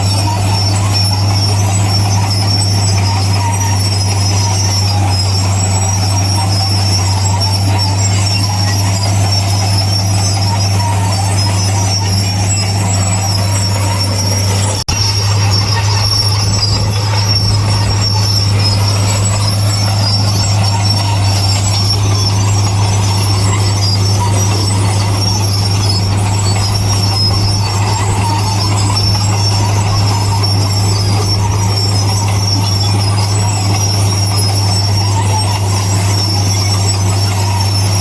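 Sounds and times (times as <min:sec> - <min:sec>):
construction machinery engine drone: 0:00.0 - 0:38.0
high-pitched machine whine: 0:00.0 - 0:38.0.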